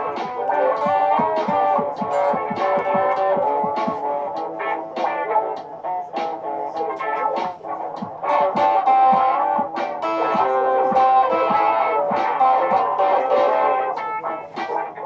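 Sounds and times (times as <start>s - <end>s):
distorted electric guitar loops: 0.0s - 15.0s.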